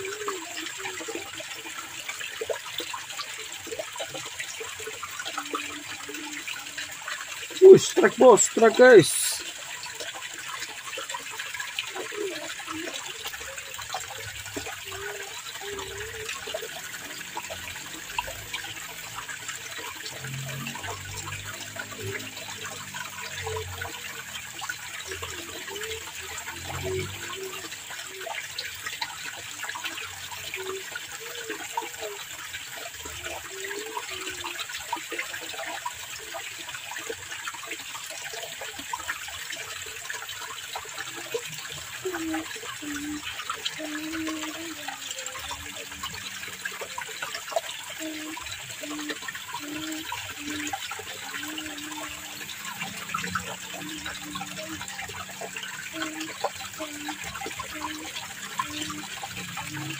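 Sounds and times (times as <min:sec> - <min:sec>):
rushing water in a channel: 0:00.0 - 0:59.9.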